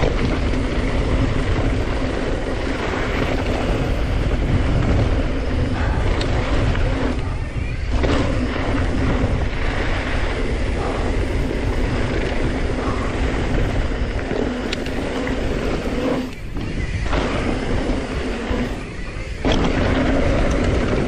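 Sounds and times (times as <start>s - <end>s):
bike tyres rolling on dirt: 0.0s - 21.0s
wind buffeting microphone: 0.0s - 21.0s.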